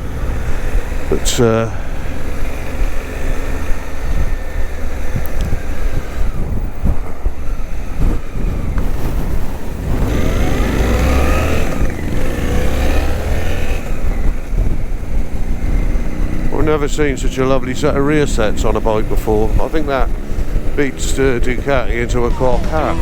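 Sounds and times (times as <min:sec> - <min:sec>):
motorcycle engine revving: 0:00.0 - 0:23.0
motorcycle engines rumbling: 0:00.0 - 0:23.0.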